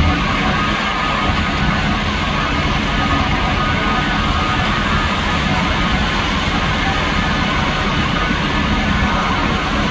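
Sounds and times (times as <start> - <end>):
fire truck engine running: 0.0 - 9.9.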